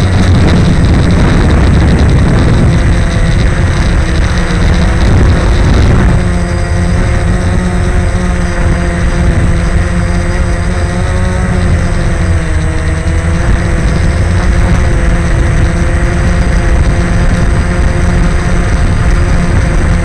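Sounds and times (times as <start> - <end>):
deep rumble: 0.0 - 20.0
drone propellers humming: 0.0 - 20.0.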